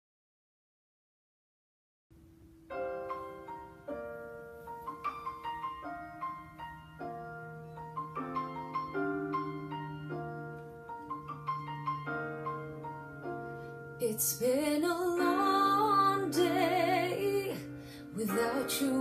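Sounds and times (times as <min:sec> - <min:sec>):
piano playing slow chords: 0:02.2 - 0:19.0.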